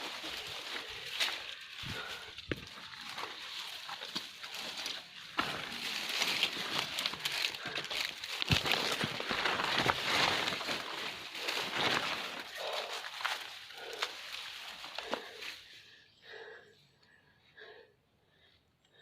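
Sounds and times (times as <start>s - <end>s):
dense rustling and crackling: 0.0s - 15.7s.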